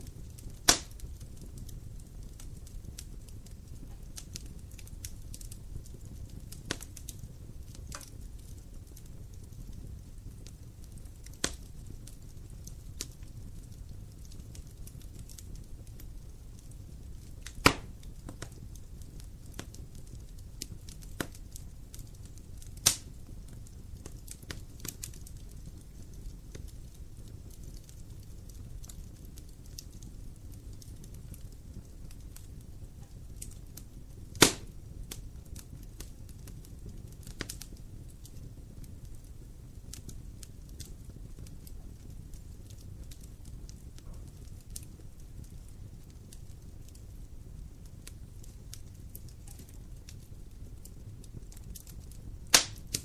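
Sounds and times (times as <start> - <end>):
loud pops of burning wood: 0.0 - 53.0
low rumble of fire: 0.0 - 53.0
wood fire crackling: 0.0 - 53.0.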